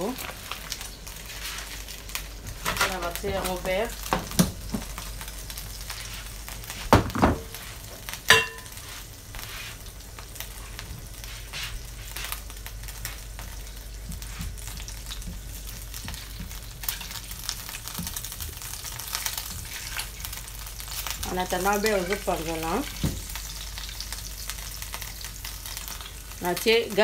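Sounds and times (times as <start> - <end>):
butter sizzling in frying pan: 0.0 - 27.0.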